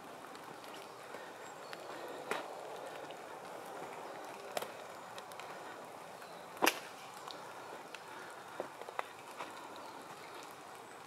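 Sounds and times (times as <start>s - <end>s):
twigs snapping underfoot: 0.3s - 5.6s, 6.5s - 10.8s.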